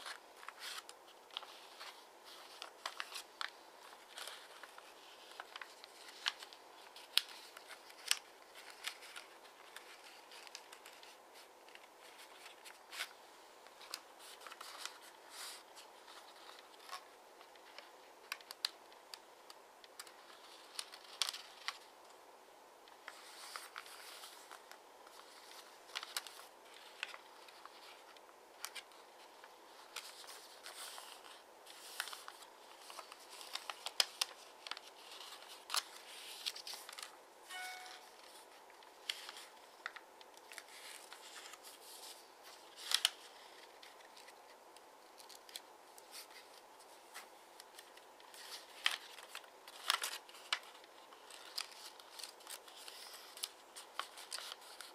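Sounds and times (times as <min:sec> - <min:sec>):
paper crackling and rustling: 0:00.0 - 0:22.2, 0:22.8 - 0:54.9.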